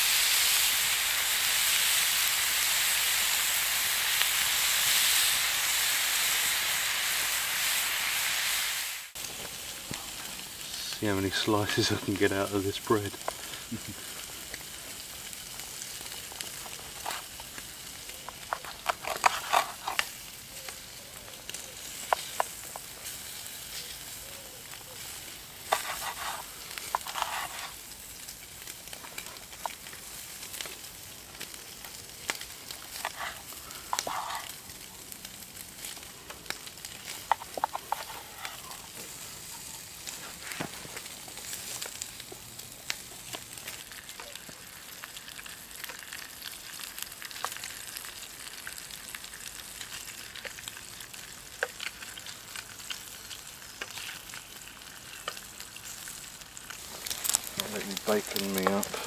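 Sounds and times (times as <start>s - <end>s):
bacon sizzling in a frying pan: 0.0s - 59.0s.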